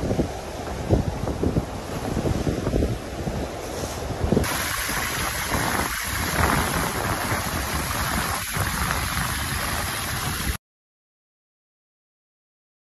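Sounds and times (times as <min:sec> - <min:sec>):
water rushing along a hull: 0:00.0 - 0:10.6
wind on microphone: 0:00.0 - 0:10.6.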